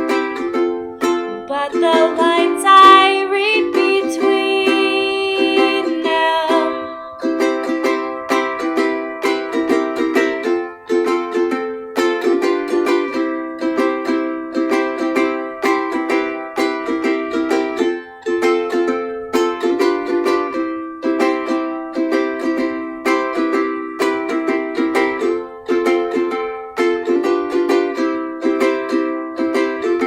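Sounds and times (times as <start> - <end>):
ukulele strumming: 0.0 - 30.0.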